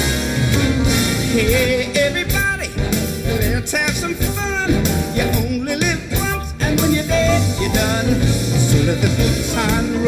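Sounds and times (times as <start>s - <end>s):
live country band playing: 0.0s - 10.0s.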